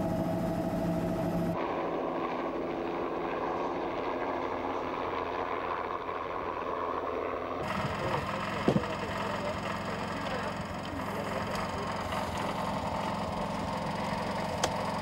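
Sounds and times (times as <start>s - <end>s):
distant helicopter engine and rotor: 0.0s - 15.0s.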